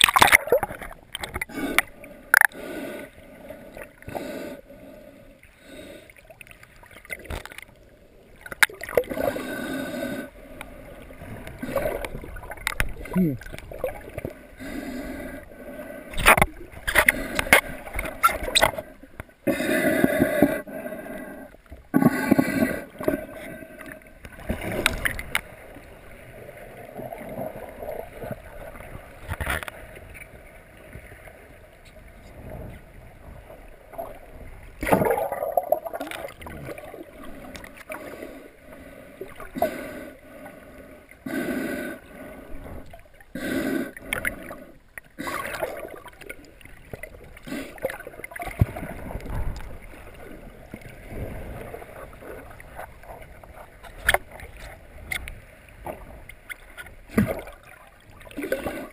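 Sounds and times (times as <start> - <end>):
underwater water swishing: 0.0 - 58.9.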